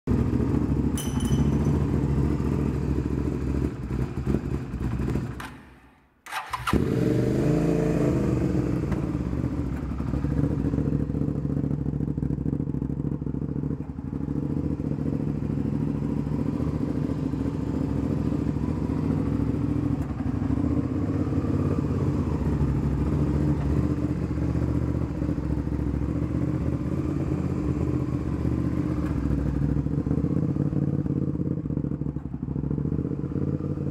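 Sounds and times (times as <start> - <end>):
motorcycle engine starting and idling: 0.1 - 33.9.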